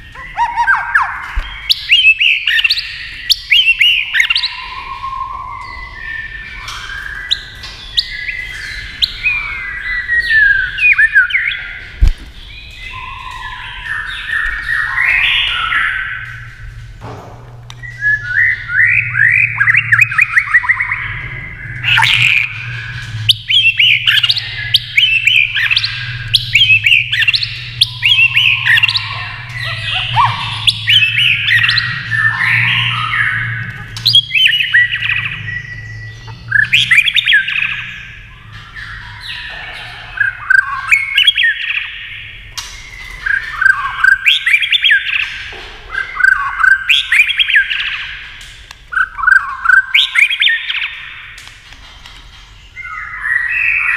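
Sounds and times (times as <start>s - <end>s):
bird singing varied phrases: 0.0s - 16.6s, 17.8s - 51.4s, 52.6s - 53.9s.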